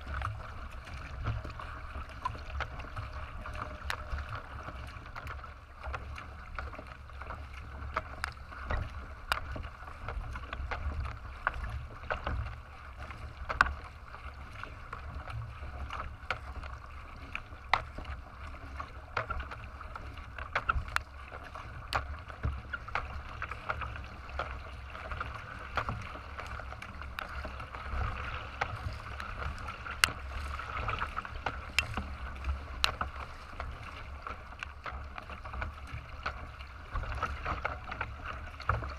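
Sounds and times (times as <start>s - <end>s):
paddle splashes: 0.0s - 38.9s
water rushing along kayak bow: 0.0s - 38.9s.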